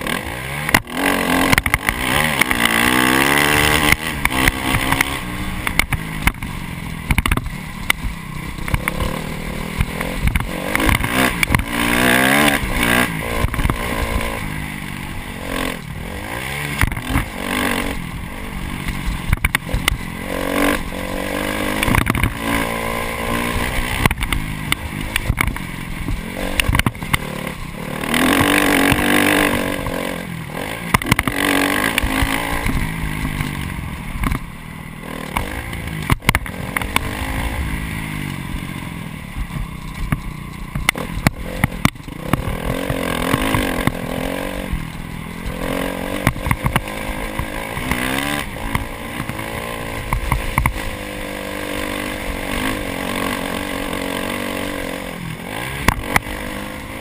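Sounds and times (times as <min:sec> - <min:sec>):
knocks and clatter from bike: 0:00.0 - 0:18.0, 0:18.7 - 0:37.4, 0:38.1 - 0:57.0
dirt bike engine revving: 0:00.0 - 0:57.0.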